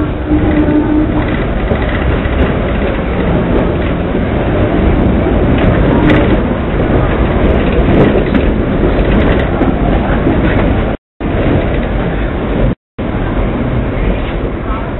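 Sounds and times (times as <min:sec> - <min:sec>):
tram running on rails: 0:00.0 - 0:14.9.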